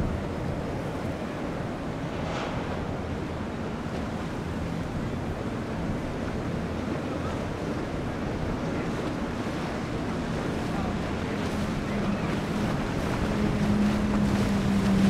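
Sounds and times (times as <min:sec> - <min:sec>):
hull wash through water: 0:00.0 - 0:15.0
outboard motors humming: 0:00.0 - 0:15.0
wind on microphone: 0:00.0 - 0:15.0.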